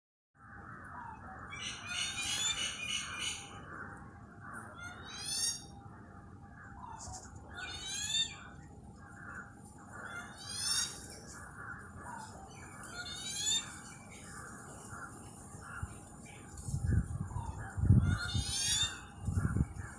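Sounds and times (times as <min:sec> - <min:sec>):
faint bird calls: 0:00.4 - 0:19.9
rapid bird chatter: 0:00.7 - 0:19.9.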